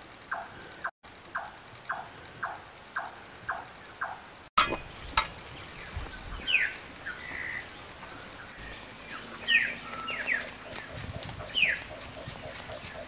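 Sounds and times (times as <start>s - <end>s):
birds calling: 0.3s - 13.0s.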